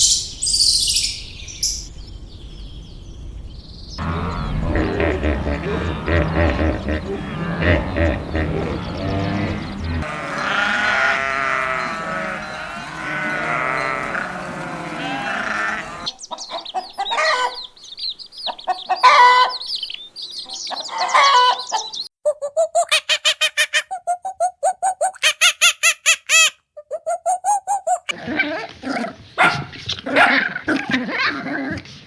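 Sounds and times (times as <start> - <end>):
farm animals calling: 4.0 - 31.9.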